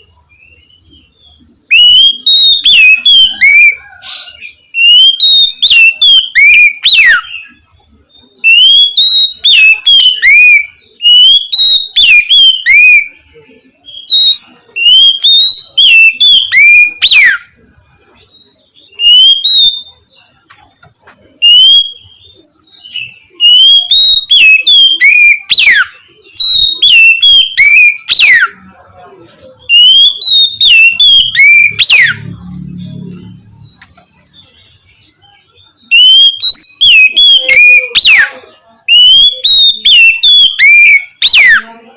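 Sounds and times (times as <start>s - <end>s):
bird singing whistled phrases: 0.3s - 17.6s, 18.3s - 20.3s, 21.4s - 28.8s, 29.4s - 41.7s.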